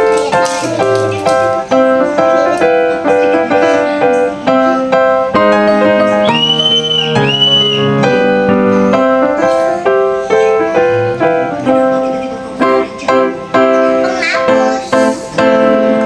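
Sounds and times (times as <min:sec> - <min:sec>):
bright keyboard melody: 0:00.0 - 0:16.0.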